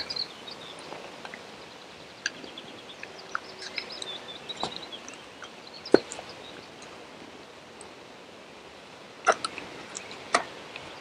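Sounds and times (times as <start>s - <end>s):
birds chirping: 0.0s - 8.4s, 9.2s - 11.0s.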